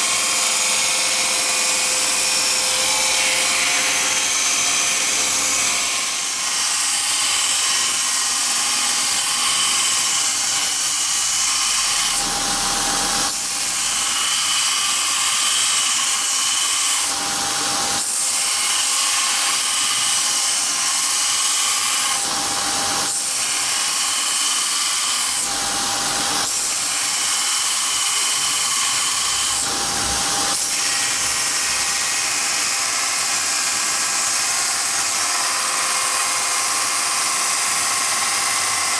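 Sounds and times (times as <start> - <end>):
belt grinder whining: 0.0 - 38.9.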